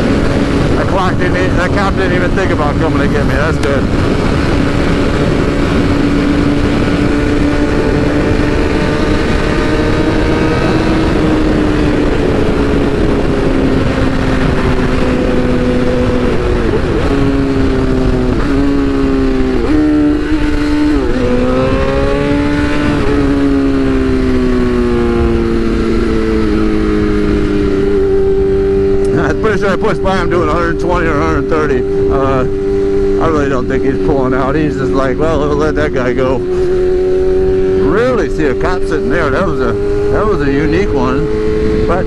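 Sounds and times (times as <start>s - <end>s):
motorcycle engine running hard: 0.0s - 42.0s
wind noise: 0.0s - 42.0s.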